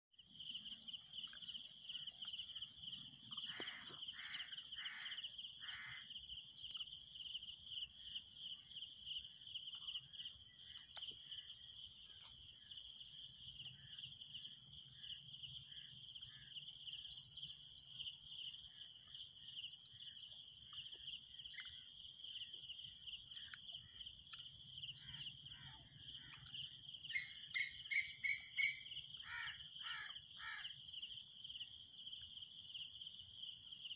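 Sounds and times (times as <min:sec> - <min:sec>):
crickets chirring: 0:00.2 - 0:33.9.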